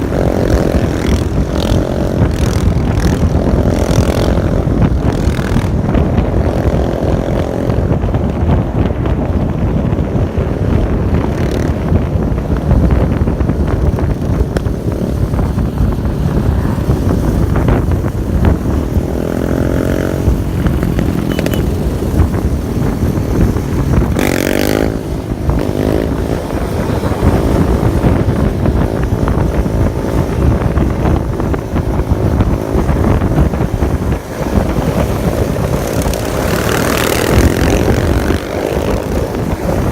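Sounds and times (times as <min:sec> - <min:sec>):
engine rumbling: 0:00.0 - 0:39.9
wind noise: 0:00.0 - 0:39.9.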